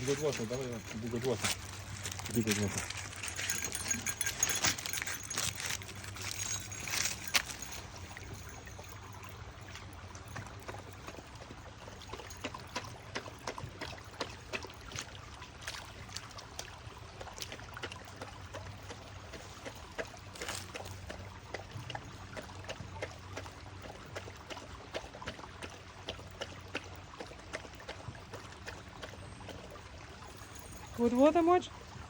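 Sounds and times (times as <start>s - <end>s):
dog splashing in shallow water: 0.0s - 32.0s.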